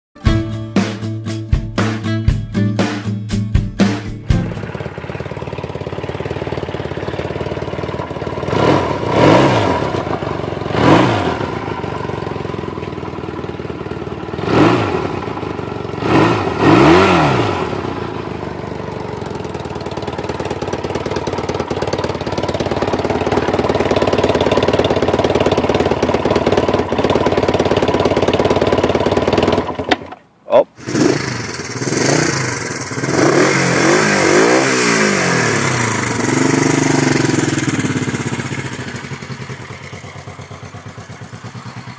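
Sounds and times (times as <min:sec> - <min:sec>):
motorcycle engine idling and revving: 0:00.2 - 0:41.9.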